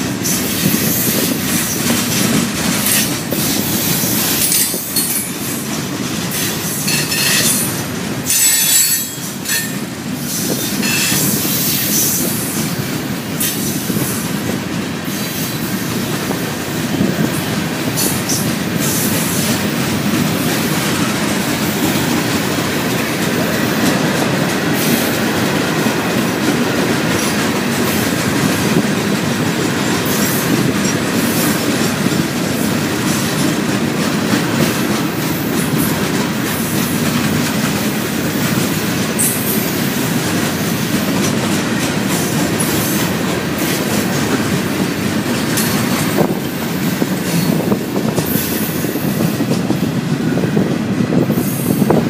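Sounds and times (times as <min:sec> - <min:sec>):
freight train rumble: 0:00.0 - 0:52.0.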